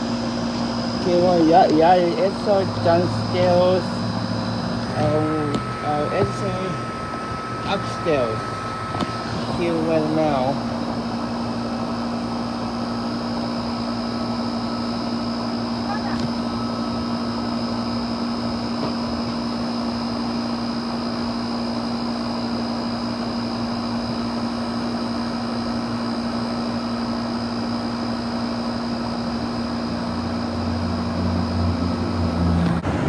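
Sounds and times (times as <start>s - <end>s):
gas furnace running: 0.0s - 33.0s
lower hum: 0.0s - 33.0s.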